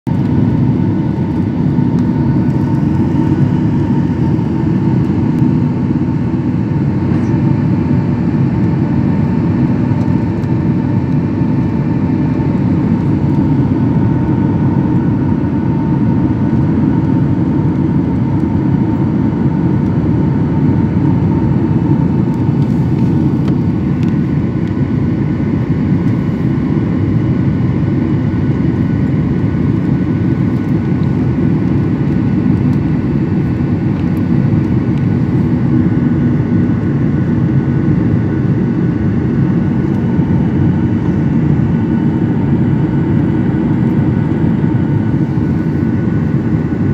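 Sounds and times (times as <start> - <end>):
faint steady whine: 0.1 - 46.9
jet airliner cabin rumble: 0.1 - 46.9.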